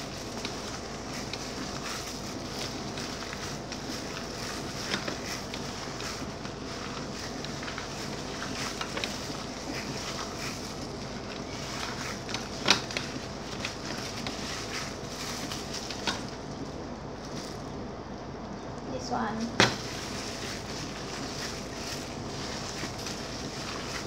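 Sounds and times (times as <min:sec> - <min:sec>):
hands squishing wet meat mixture: 0:00.0 - 0:17.6, 0:19.6 - 0:24.0
plastic gloves crinkling: 0:00.0 - 0:17.8, 0:19.4 - 0:24.0.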